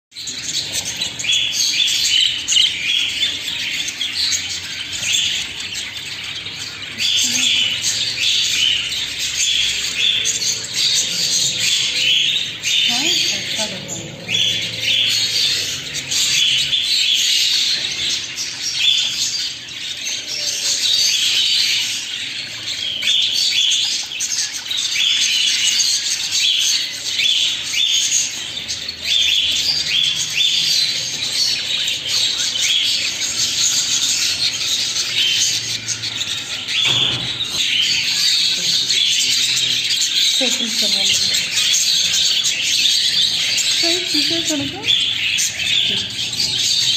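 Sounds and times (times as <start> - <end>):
budgerigars chattering and warbling: 0.2 - 46.9.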